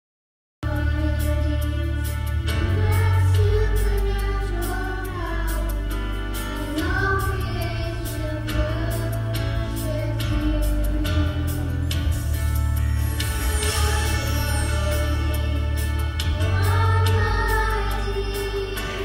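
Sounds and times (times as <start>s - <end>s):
musical accompaniment with beat: 0.6s - 19.0s
children's choir singing: 0.7s - 12.2s, 13.4s - 19.0s.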